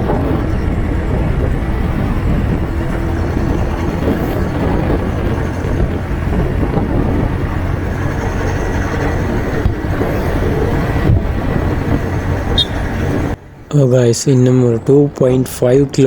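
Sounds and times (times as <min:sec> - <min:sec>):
motorcycle engine and road rumble: 0:00.0 - 0:16.0
wind noise on microphone: 0:00.0 - 0:16.0.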